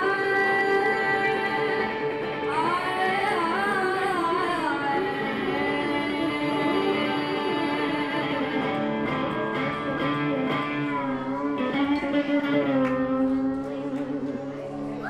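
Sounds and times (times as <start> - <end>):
electric guitar bending notes: 0.0 - 15.0.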